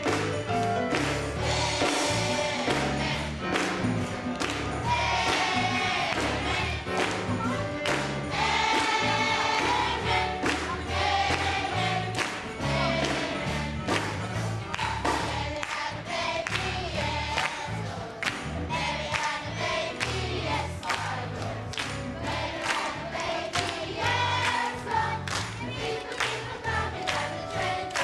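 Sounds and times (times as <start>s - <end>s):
choir singing with accompaniment: 0.0s - 28.0s.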